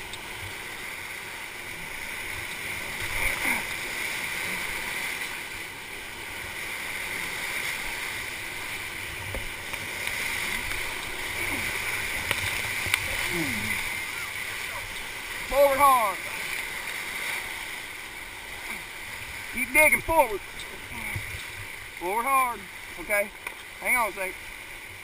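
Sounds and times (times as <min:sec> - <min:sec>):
whitewater rapids rushing: 0:00.0 - 0:25.0.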